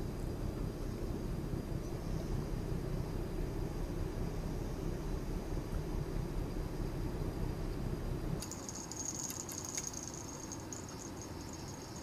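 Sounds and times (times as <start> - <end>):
faint high whine: 0.0 - 12.0
low outdoor rumble: 0.0 - 12.0.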